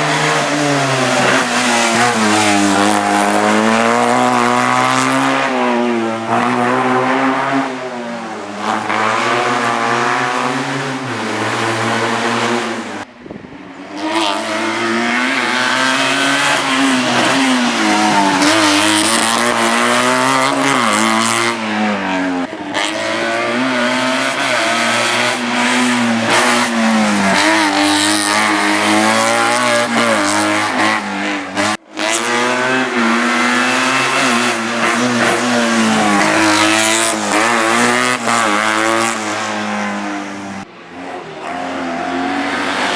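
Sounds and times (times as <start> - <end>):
race car engine at high revs: 0.0 - 13.1, 13.7 - 42.9.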